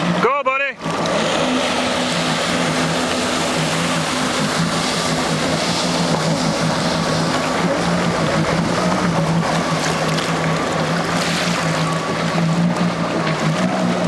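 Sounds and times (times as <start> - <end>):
jet ski engine droning: 0.0 - 14.0
wind: 0.0 - 14.0.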